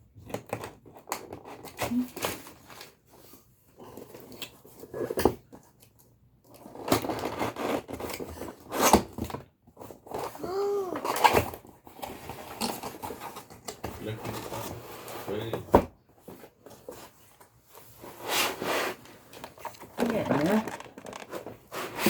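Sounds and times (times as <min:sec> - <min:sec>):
cardboard and plastic rustling: 0:00.1 - 0:22.0.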